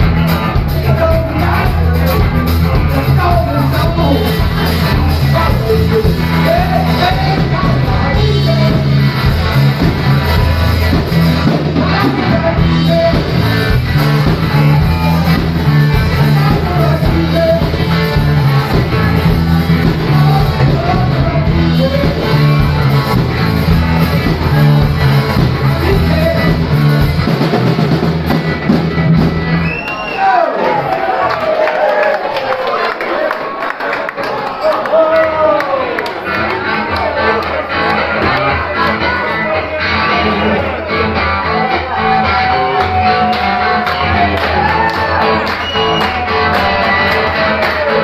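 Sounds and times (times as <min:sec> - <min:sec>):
electric guitars: 0:00.0 - 0:29.8, 0:35.2 - 0:48.0
bass line: 0:00.0 - 0:30.7, 0:36.2 - 0:48.0
drum kit: 0:00.0 - 0:31.0, 0:36.4 - 0:48.0.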